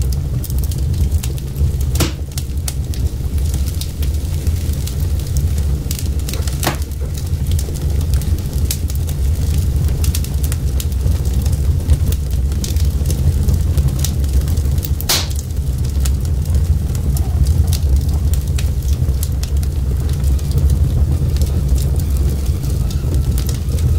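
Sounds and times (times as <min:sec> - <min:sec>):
fire pops: 0:00.0 - 0:23.9
wood fire crackling: 0:00.0 - 0:23.9.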